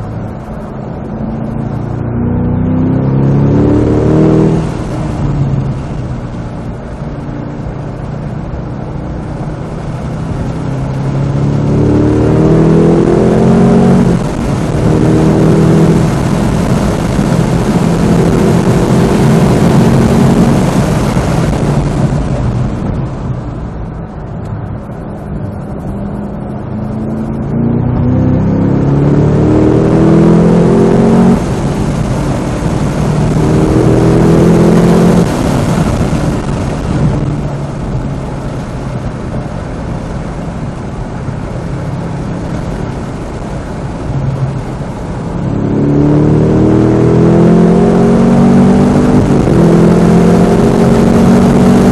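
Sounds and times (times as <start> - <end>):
car engine accelerating hard: 0.0 - 51.9.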